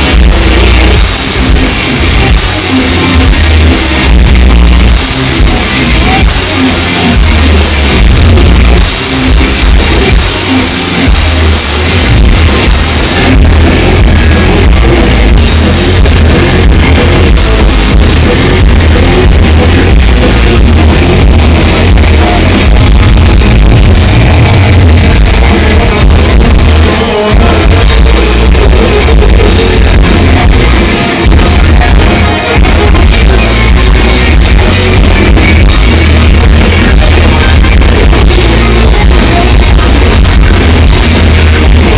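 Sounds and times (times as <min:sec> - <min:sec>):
bass guitar: 0:00.0 - 0:41.9
distorted electric guitars: 0:00.0 - 0:41.9.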